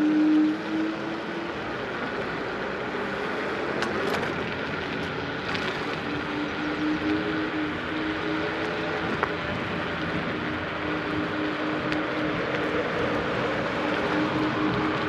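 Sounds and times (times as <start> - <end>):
electric scooter motor hum: 0.0 - 15.0
tyre and wind noise: 0.0 - 15.0.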